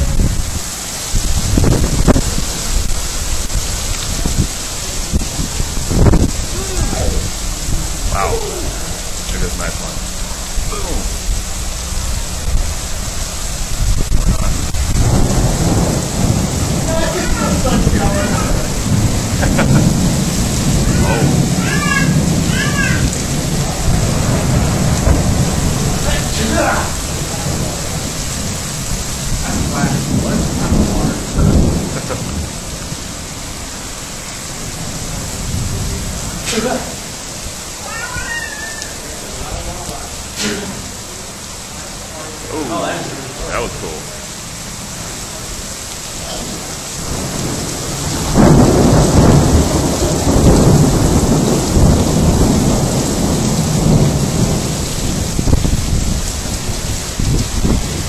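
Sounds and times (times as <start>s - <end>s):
heavy rain: 0.0s - 58.0s
thunder rumbling: 0.0s - 58.0s.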